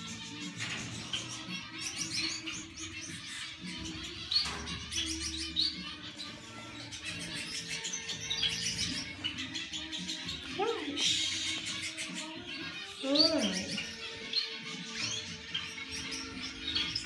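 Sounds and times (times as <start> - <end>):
pet birds chirping: 0.0 - 17.0.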